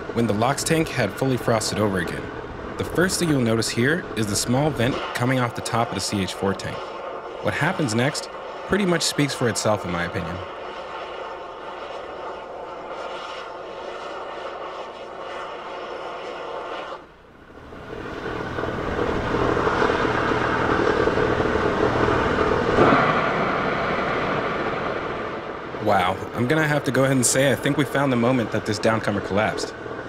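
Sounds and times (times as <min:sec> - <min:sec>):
rushing roar of venting gas: 0:00.0 - 0:30.0.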